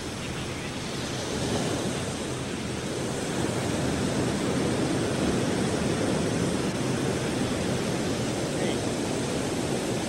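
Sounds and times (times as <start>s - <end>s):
steady rushing wind or surf: 0.0s - 10.0s.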